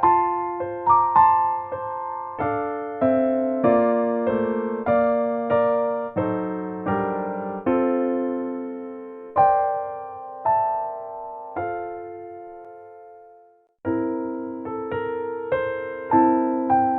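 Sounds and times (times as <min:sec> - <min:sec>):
slow electric piano chords: 0:00.0 - 0:16.9.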